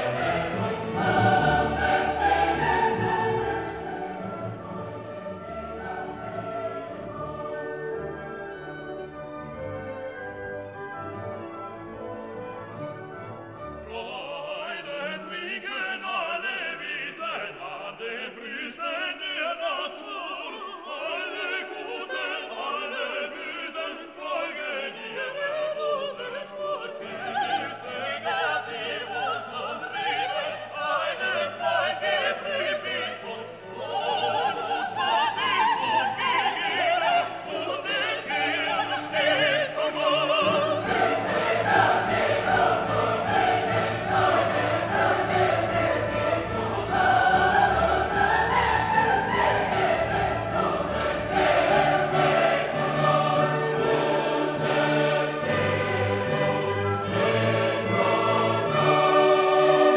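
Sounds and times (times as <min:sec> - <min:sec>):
operatic singing with orchestra: 0:00.0 - 0:59.9.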